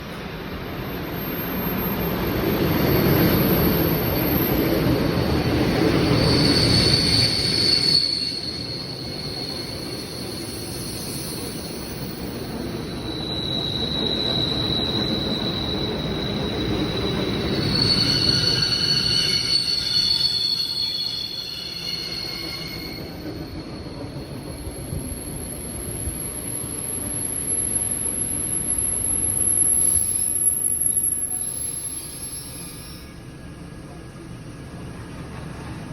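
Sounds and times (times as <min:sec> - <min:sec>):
train brakes squealing: 0:00.0 - 0:33.5
train cars rumbling on rails: 0:00.0 - 0:35.9.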